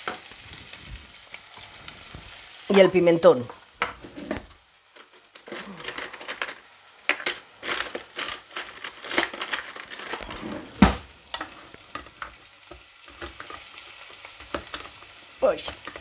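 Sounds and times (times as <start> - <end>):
potatoes sizzling in oil: 0.0 - 10.3, 11.0 - 16.0.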